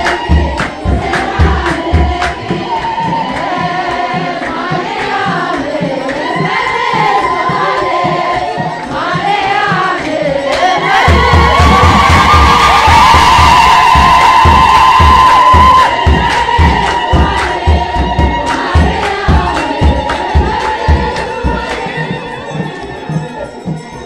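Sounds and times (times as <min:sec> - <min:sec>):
crowd singing a hymn: 0:00.0 - 0:23.5
steadily beating drum: 0:00.0 - 0:24.0.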